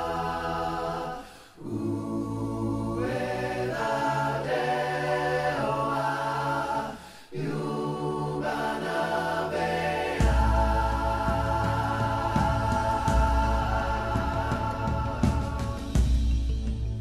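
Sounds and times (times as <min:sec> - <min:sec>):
choir singing a cappella: 0:00.0 - 0:16.5.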